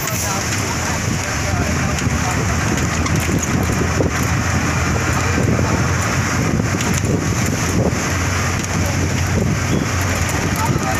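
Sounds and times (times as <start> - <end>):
bus rumble and road noise: 0.0 - 10.9
wind rushing over microphone: 0.0 - 10.9.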